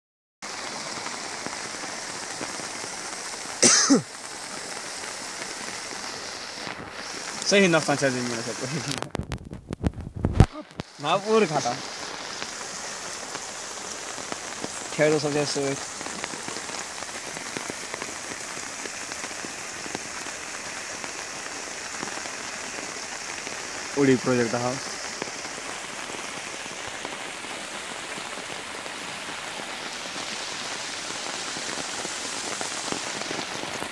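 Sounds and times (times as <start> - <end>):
floodwater rushing: 0.4 - 9.2, 10.4 - 33.9
rain falling on ground: 0.4 - 33.9.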